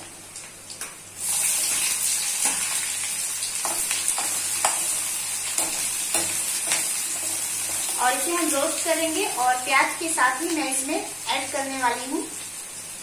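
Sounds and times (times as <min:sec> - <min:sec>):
onion sizzling in hot oil: 0:01.0 - 0:13.0.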